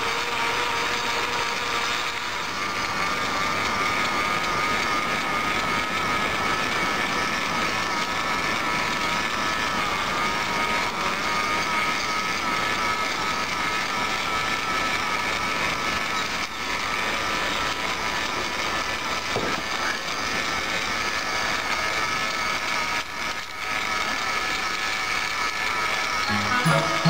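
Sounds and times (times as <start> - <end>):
model train motor whine: 0.0 - 27.0.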